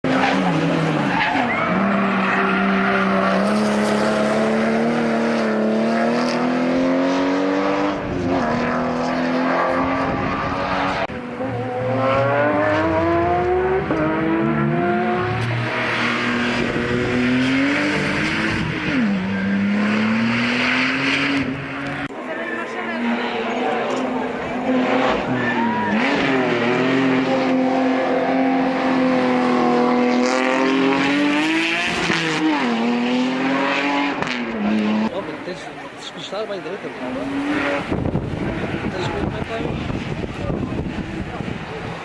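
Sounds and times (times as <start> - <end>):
car engine revving through gears: 0.0 - 22.1, 23.8 - 35.4, 36.8 - 42.0.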